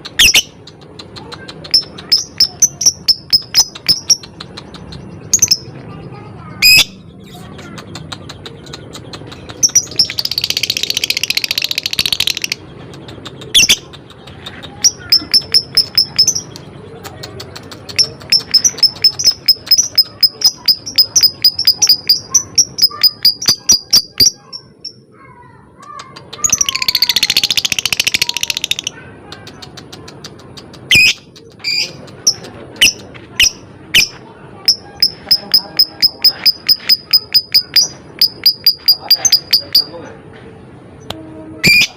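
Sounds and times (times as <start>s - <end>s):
lovebird chirping and trilling: 0.0s - 16.8s, 17.5s - 25.1s, 26.2s - 40.0s, 41.6s - 41.9s.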